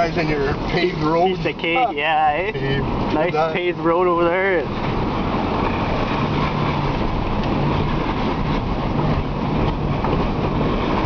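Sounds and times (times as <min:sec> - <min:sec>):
car engine hum: 0:00.0 - 0:11.0
tyre and road noise: 0:00.0 - 0:11.0.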